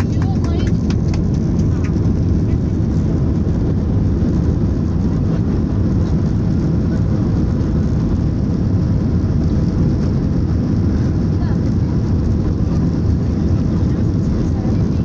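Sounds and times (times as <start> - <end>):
airliner engines rumbling in cabin: 0.0 - 15.0.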